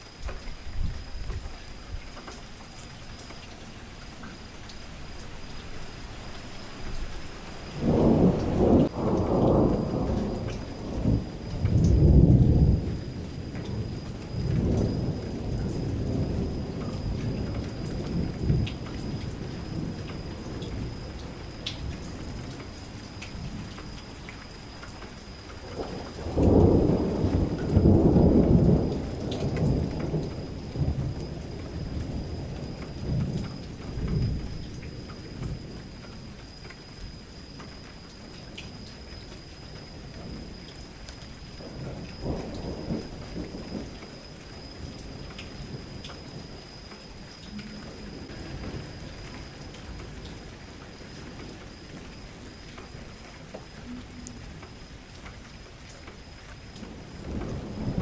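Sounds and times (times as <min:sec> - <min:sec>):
steady rain: 0:00.0 - 0:58.0
thunder rumbling: 0:07.0 - 0:55.9, 0:56.7 - 0:58.0.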